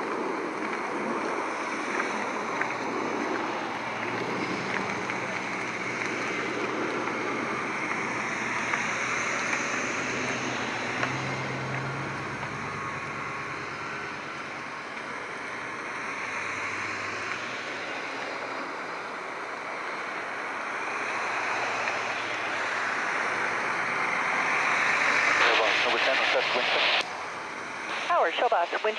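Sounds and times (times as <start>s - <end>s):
distant jets passing overhead: 0.0s - 28.9s.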